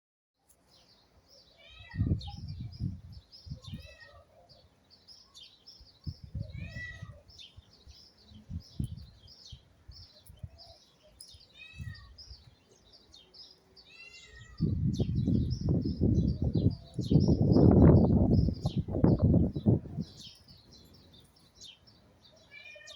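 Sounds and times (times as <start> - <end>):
birds chirping: 0.5 - 22.9.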